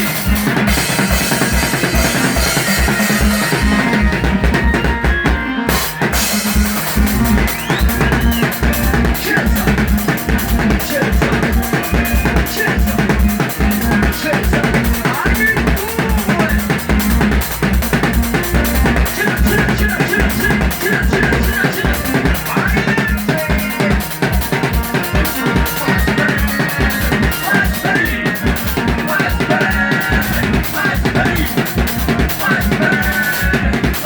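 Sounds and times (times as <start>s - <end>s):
bass playing: 0.0s - 33.9s
band music: 0.0s - 34.0s
drum kit beat: 0.0s - 34.0s.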